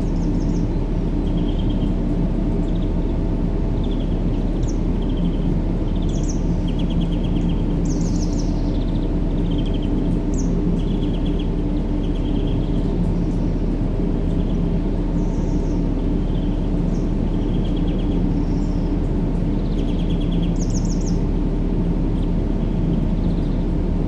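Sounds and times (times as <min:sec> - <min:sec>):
deep white noise: 0:00.0 - 0:24.0
small birds chirping: 0:00.0 - 0:24.0.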